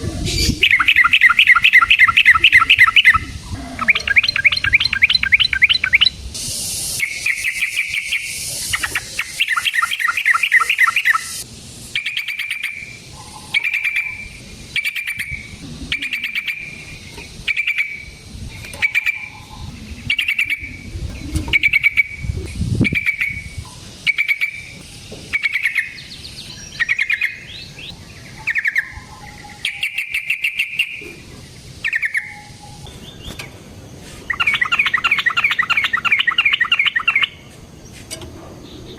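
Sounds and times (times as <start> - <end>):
bulbul singing: 0.0 - 33.6, 34.2 - 37.5.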